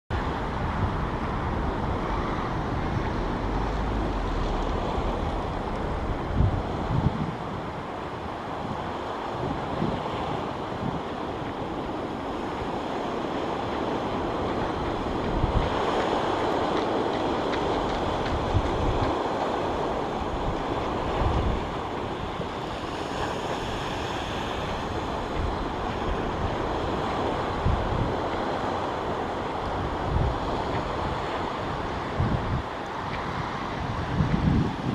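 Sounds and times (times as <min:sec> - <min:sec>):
surf rumbling: 0:00.1 - 0:34.9
wind buffeting microphone: 0:00.1 - 0:34.9.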